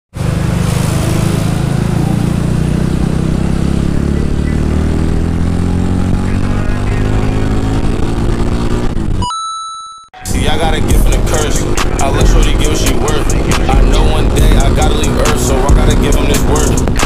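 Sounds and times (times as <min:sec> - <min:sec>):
motorcycle engine running: 0:00.1 - 0:09.2, 0:10.3 - 0:17.0.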